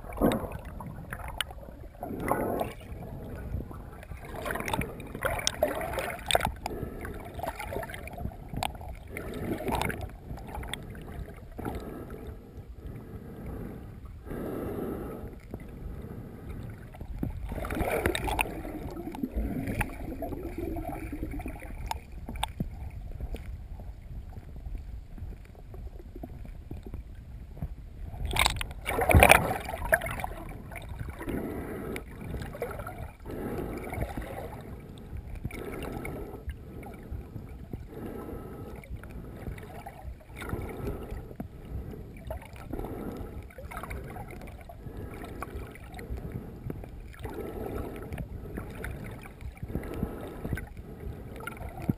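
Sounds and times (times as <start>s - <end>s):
muffled water sloshing and gurgling: 0.0s - 51.9s
swimming strokes through water: 0.0s - 51.9s.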